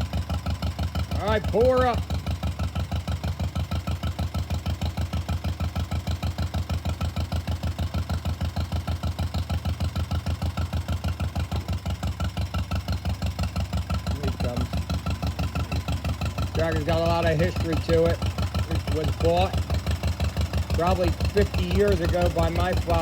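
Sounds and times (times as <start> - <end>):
tractor engine putting: 0.0 - 23.0.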